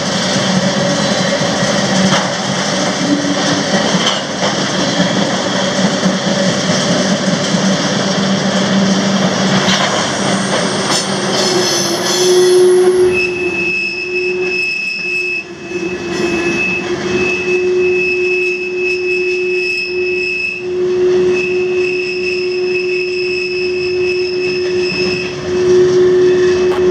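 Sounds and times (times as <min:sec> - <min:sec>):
freight train rolling on rails: 0:00.0 - 0:26.9
high-pitched wheel squeal: 0:00.4 - 0:05.9, 0:06.6 - 0:26.9.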